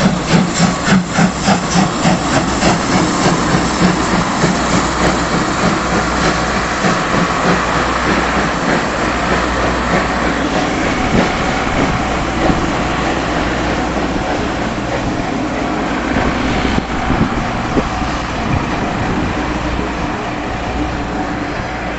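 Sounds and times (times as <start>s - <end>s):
train passing with rumbling wheels: 0.0s - 21.9s.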